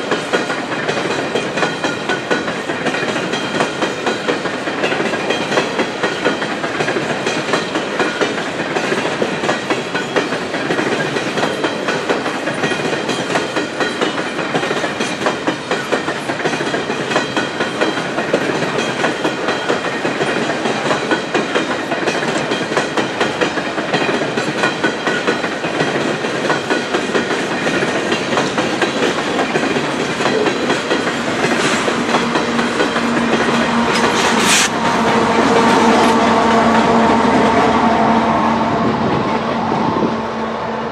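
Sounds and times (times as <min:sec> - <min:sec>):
train wheels clacking on rail joints: 0:00.0 - 0:37.9
diesel locomotive: 0:00.0 - 0:40.9.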